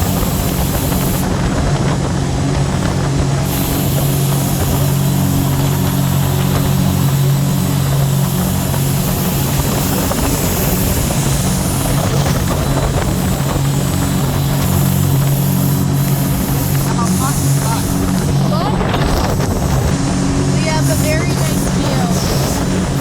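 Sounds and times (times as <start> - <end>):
boat engine droning: 0.0 - 23.0
wind noise: 0.0 - 23.0.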